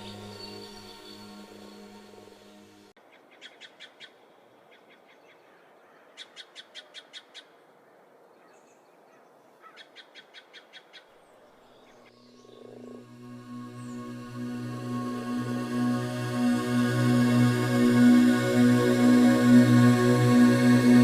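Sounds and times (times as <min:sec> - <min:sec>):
faint forest hiss: 0:00.0 - 0:21.0.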